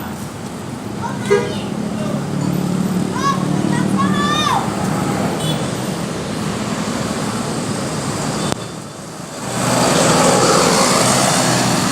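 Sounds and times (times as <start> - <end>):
traffic noise: 0.0 - 11.9.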